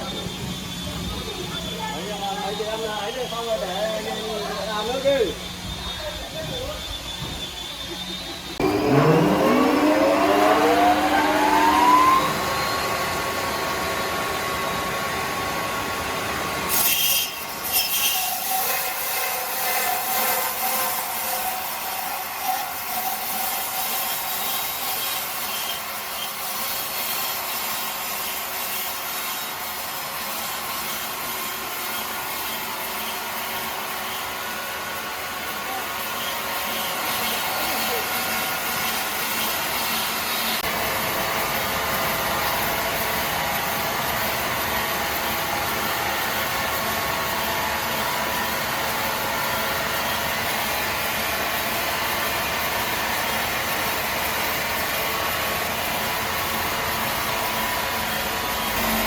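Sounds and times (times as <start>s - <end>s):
power saw cutting timber: 0.0s - 59.0s.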